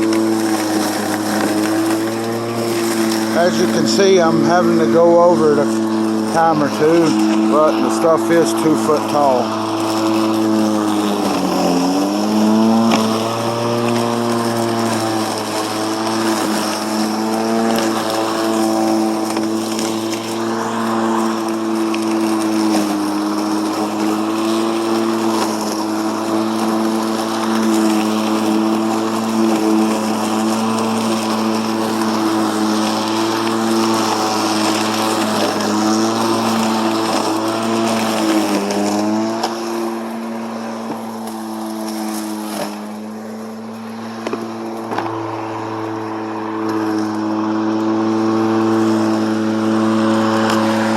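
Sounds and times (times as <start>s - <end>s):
lawn mower cutting grass: 0.0s - 50.9s.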